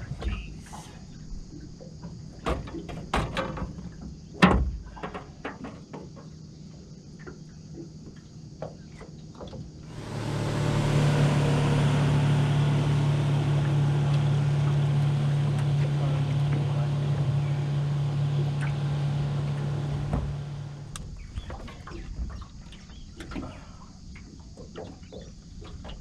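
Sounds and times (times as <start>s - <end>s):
motorboat engine humming: 0.0s - 26.0s.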